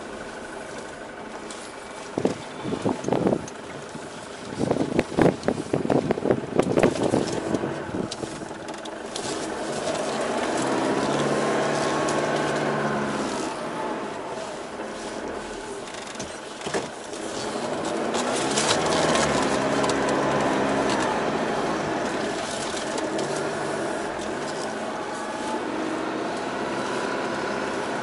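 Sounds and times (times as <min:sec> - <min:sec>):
engine working under load: 0:00.0 - 0:28.0.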